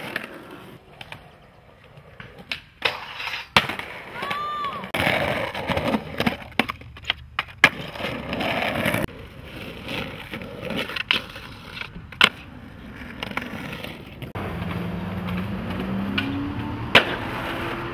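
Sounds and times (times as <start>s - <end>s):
skateboard clacking on ground: 0.0s - 17.7s
skateboard wheels rolling on concrete: 0.0s - 17.9s.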